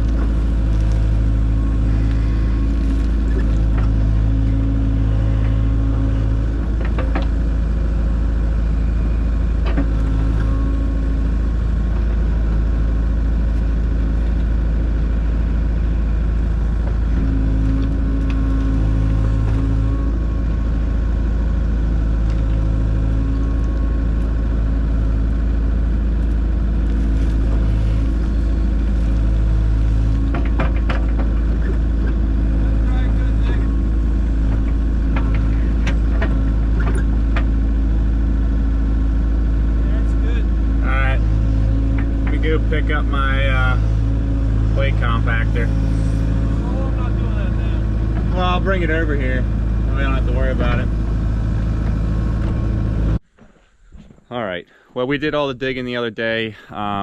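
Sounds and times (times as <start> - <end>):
excavator diesel engine running: 0.0 - 53.4.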